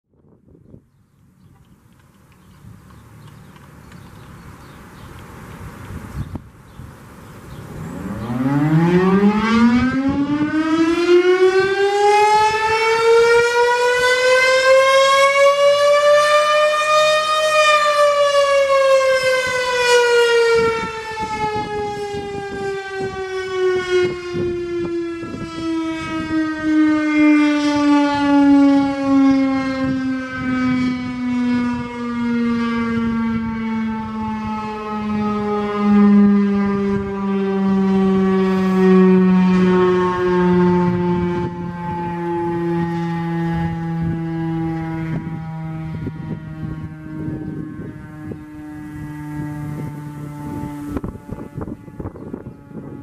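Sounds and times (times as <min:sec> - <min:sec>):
warning siren wailing: 0:07.4 - 0:53.0.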